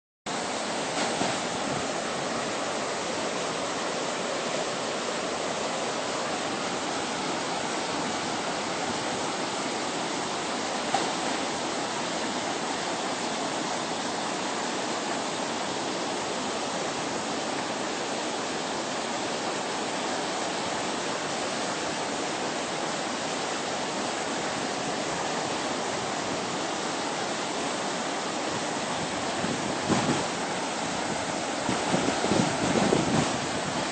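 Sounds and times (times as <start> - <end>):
rushing water: 0.3 - 33.9.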